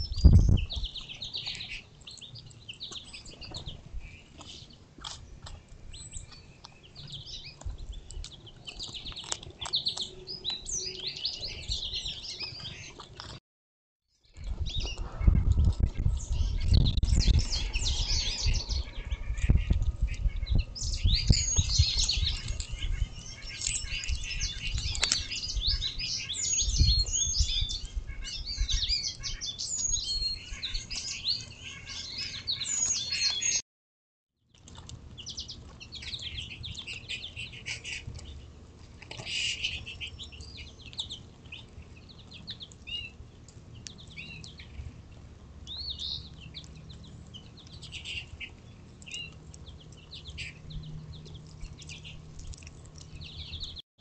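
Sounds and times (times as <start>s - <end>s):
songbirds chirping and singing: 0.0s - 13.4s, 14.2s - 33.6s, 34.6s - 53.8s.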